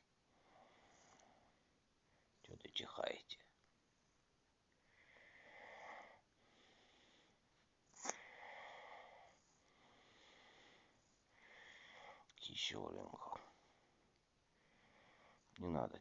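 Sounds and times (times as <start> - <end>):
faint sniffing breaths: 0.3 - 2.3, 3.9 - 12.4, 13.2 - 15.6.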